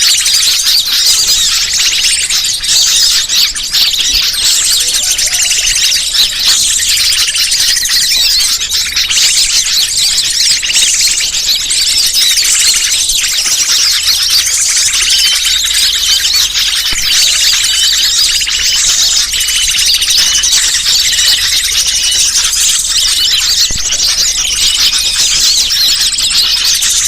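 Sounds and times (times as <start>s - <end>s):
small birds chattering and chirping: 0.0s - 27.0s.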